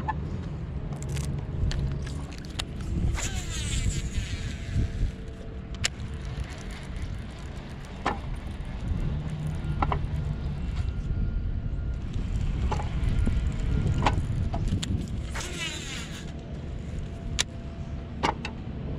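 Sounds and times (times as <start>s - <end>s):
wind buffeting microphone: 0.6s - 18.1s.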